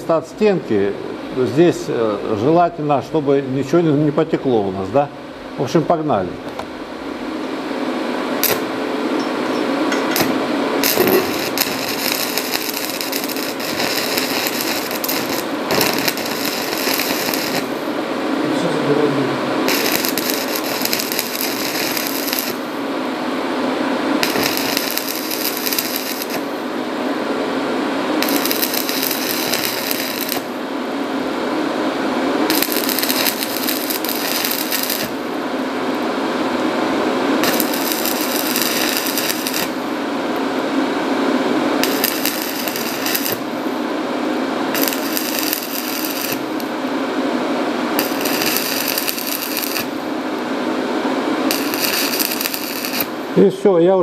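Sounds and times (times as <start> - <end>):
welding arc crackling: 8.2 - 53.5.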